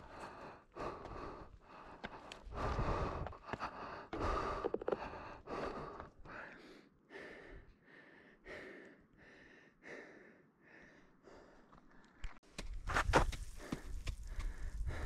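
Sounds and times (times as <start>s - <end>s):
heavy rapid breathing: 0.0s - 11.7s, 13.5s - 15.0s.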